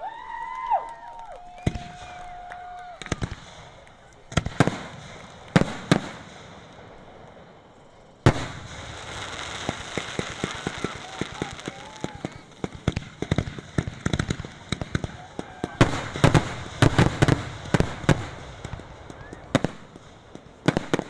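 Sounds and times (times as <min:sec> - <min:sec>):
rapid crackling pops: 0:00.6 - 0:21.0
firework hiss: 0:01.7 - 0:21.0.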